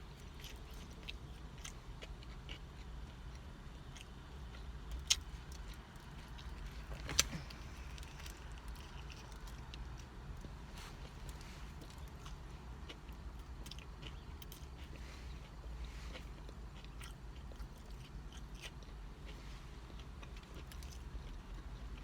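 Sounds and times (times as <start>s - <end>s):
low steady hum: 0.0s - 22.0s
person chewing: 0.1s - 22.0s.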